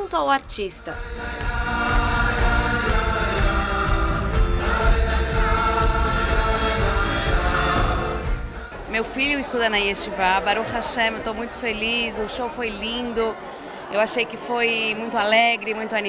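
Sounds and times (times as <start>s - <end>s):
many voices singing together: 0.8s - 16.0s.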